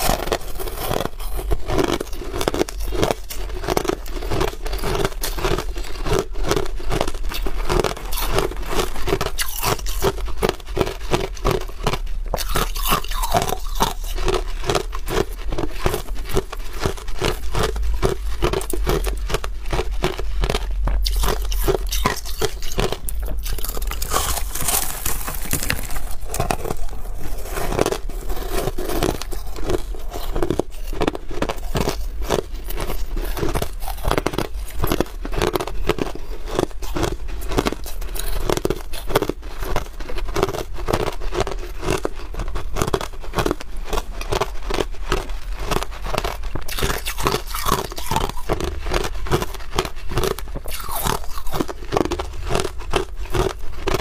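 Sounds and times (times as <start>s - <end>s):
crushed ice being chewed: 0.0s - 54.0s.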